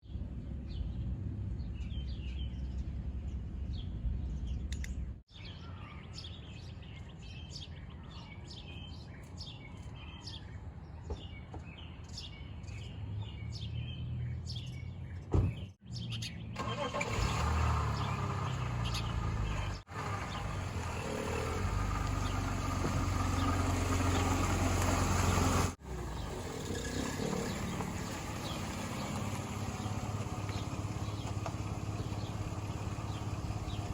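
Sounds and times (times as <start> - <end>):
birds chirping: 1.6 - 33.9.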